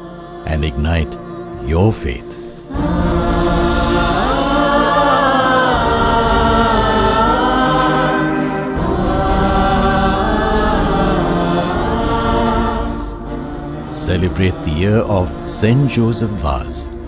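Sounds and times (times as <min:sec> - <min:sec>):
choir singing slow music: 0:00.0 - 0:17.0
steady low accompaniment: 0:00.0 - 0:17.0.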